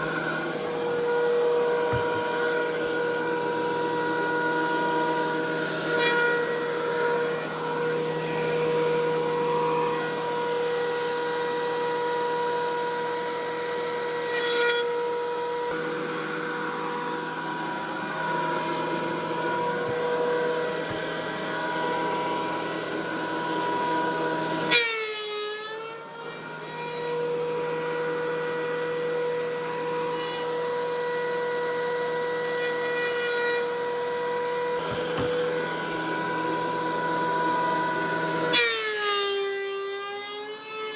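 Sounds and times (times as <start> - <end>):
thickness planer whining: 0.0 - 40.9.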